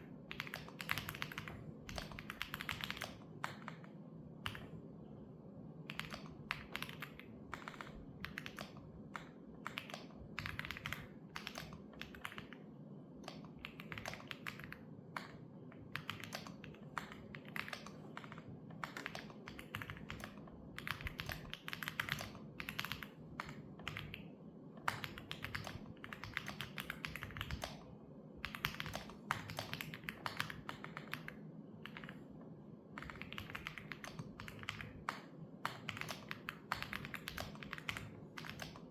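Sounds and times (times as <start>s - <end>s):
keyboard typing: 0.1s - 4.8s, 5.9s - 32.3s, 32.9s - 38.9s.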